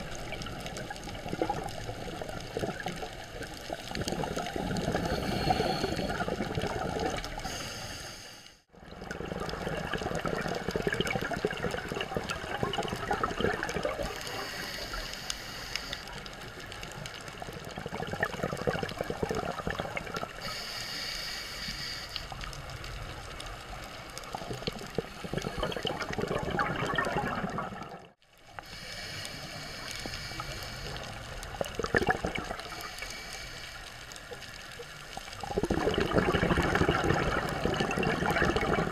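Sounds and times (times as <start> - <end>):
dense crackle: 0.0 - 38.9
underwater bubbling: 0.0 - 38.9.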